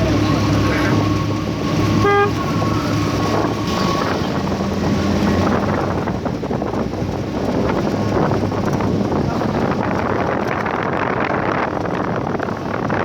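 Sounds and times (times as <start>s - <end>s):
vehicle engine humming: 0.0s - 13.0s
wind noise on microphone: 0.0s - 13.0s.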